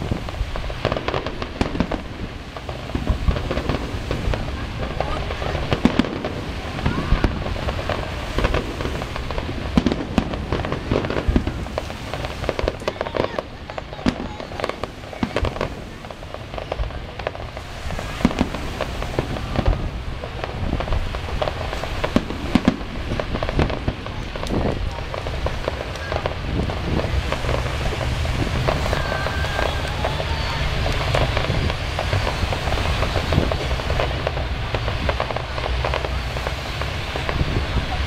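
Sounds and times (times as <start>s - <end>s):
fireworks crackle: 0.0s - 38.0s
fireworks shells bursting: 0.0s - 38.0s.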